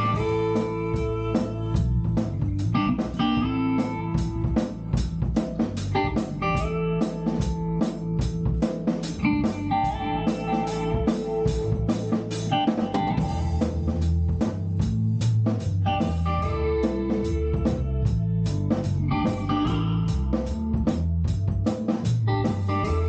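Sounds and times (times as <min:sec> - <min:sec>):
bass guitar: 0:00.0 - 0:23.0
drum kit beat: 0:00.0 - 0:23.0
electric guitar: 0:00.0 - 0:23.0.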